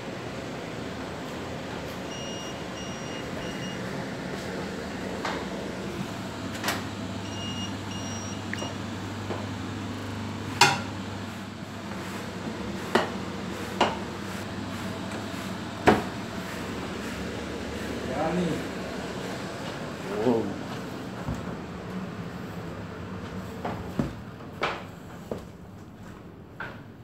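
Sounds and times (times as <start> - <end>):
machinery hum: 0.0 - 26.9.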